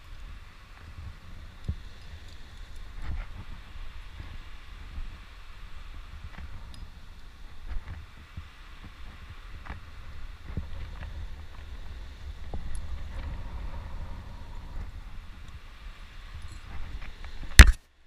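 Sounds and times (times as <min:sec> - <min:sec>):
wind buffeting microphone: 0:00.0 - 0:17.7.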